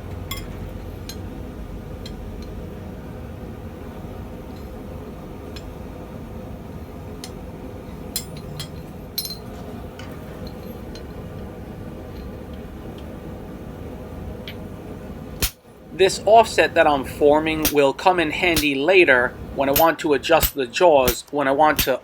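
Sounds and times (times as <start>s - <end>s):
gas forge burner rumble: 0.0s - 22.0s.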